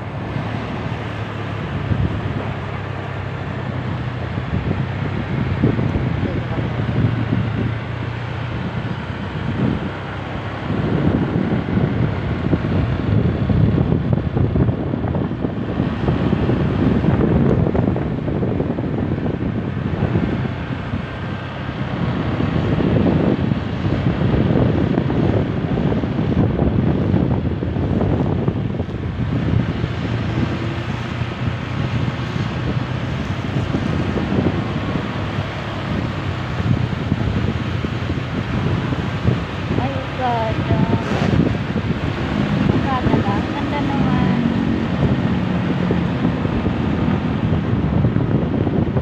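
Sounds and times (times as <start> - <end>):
motorcycle engine hum: 0.0 - 49.0
wind buffeting microphone: 0.0 - 49.0.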